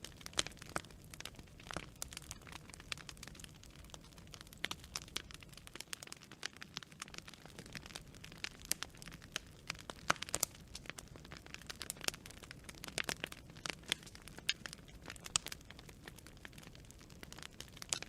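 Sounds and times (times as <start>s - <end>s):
burning branches crackling and popping: 0.0s - 18.0s
hiss and rumble of flames: 0.0s - 18.0s.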